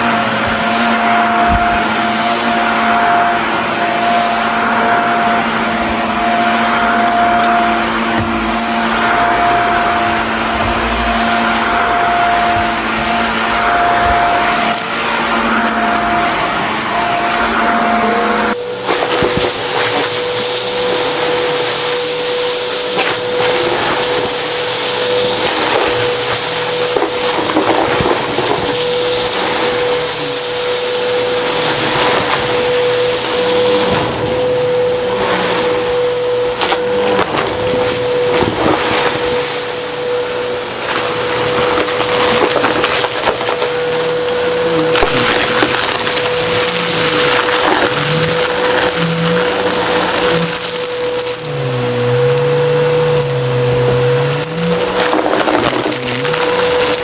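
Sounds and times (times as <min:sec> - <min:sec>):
debris rattling through nozzle: 0:00.0 - 0:57.0
vacuum cleaner motor whine: 0:00.0 - 0:57.0.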